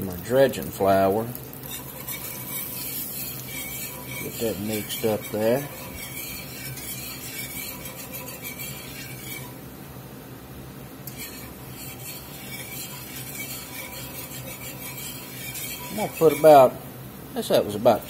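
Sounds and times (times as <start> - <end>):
whisk scraping a cast-iron skillet: 0.0 - 9.7, 11.0 - 16.9.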